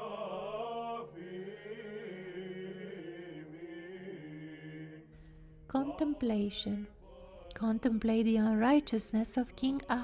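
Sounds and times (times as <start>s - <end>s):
voices chanting slow melody: 0.0s - 10.0s.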